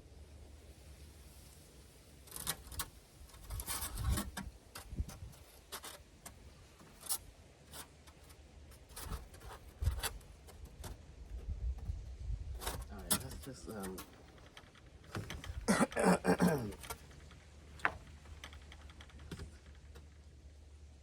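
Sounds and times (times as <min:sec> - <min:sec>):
rubbing and scraping insulation: 0:01.1 - 0:20.6.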